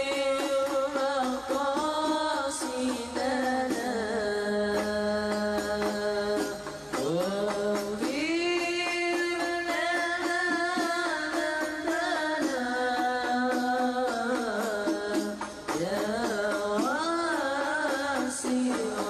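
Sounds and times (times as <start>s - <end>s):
light percussion beat: 0.0s - 19.0s
person singing devotional song: 0.0s - 19.0s.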